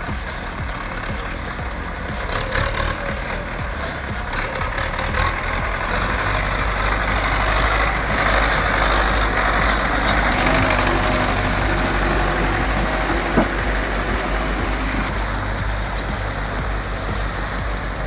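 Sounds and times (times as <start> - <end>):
broad hiss: 0.0 - 18.0
heavy truck engine running: 0.0 - 18.0.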